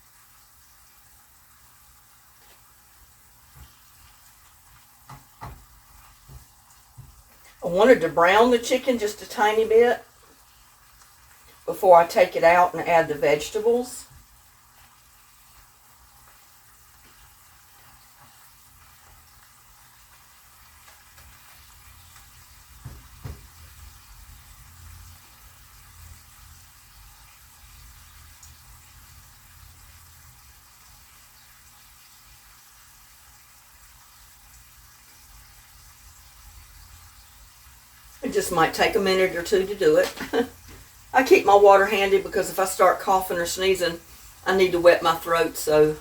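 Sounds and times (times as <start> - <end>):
chicken sizzling in oil: 0.0 - 46.0.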